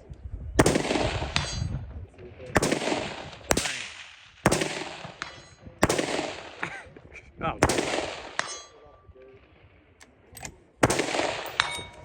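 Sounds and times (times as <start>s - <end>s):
rifle shots with echo: 0.6s - 12.0s.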